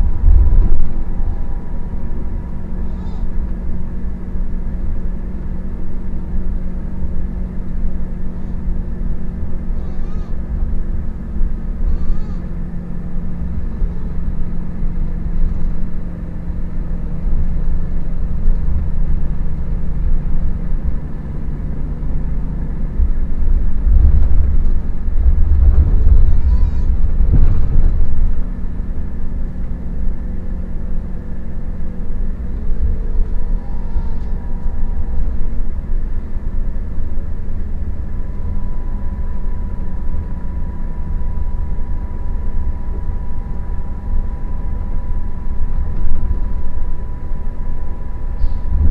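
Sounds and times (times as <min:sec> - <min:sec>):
coach engine rumble: 0:00.0 - 0:48.9
thin steady whine: 0:00.0 - 0:48.9.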